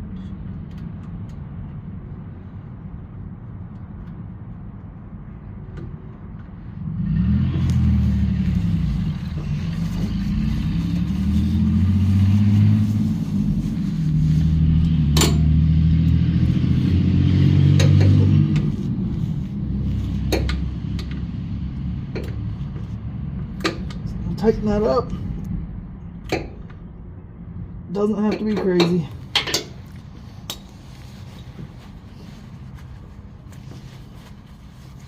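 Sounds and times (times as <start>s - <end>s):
vehicle engine running low: 0.0s - 28.0s, 29.0s - 35.0s.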